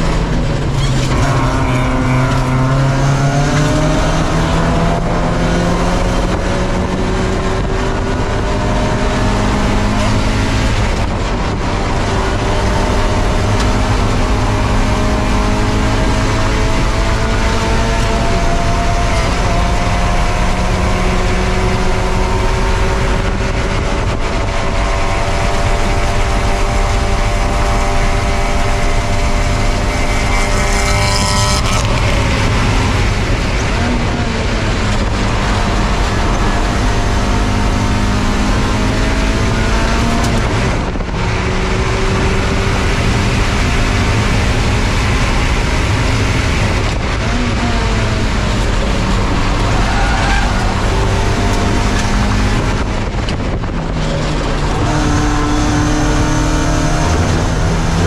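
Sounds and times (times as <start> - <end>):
race car engine accelerating: 0.0 - 58.0
road and wind noise: 0.0 - 58.0.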